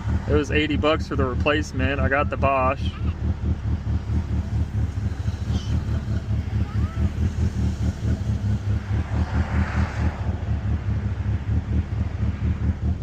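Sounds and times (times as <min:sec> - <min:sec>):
car engine rumbling unevenly: 0:00.0 - 0:13.0.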